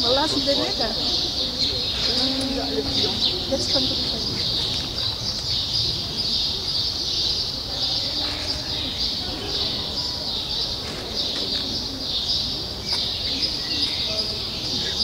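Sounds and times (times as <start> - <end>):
birds chirping: 0.0 - 15.0
low background murmur: 0.0 - 15.0.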